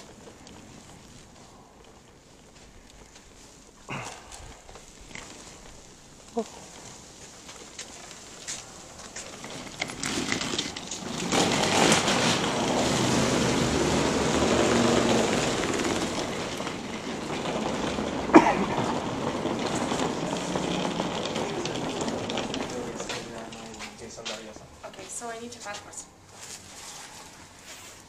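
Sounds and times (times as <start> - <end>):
wheeled suitcases rolling: 0.0 - 28.0.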